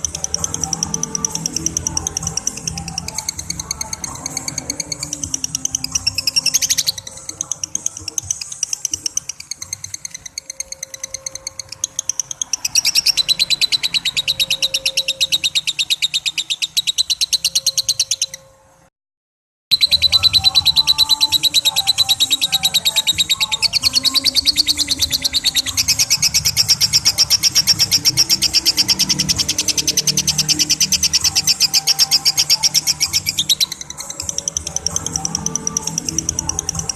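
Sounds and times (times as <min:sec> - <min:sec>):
bird chattering trill: 0:00.0 - 0:18.5, 0:19.7 - 0:36.9.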